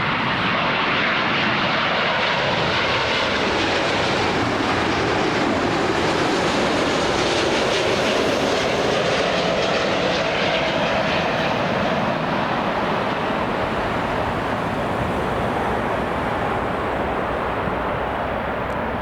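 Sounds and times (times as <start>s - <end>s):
jet airliner engines rushing: 0.0s - 19.0s.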